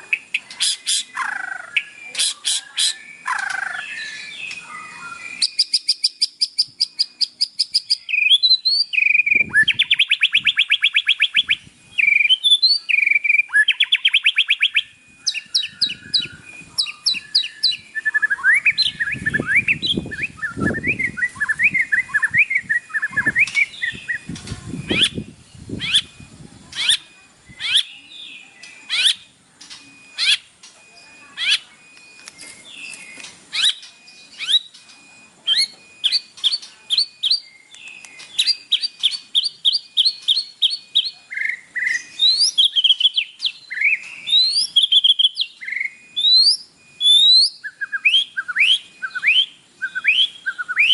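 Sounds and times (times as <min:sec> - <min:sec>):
bird singing whistles and chirps: 0:00.0 - 0:50.9.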